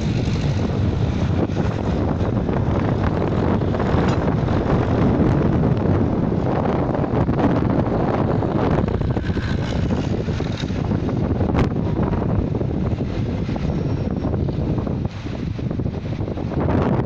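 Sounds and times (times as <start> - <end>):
tractor engines running: 0.0 - 17.0
wind buffeting microphone: 0.0 - 17.0.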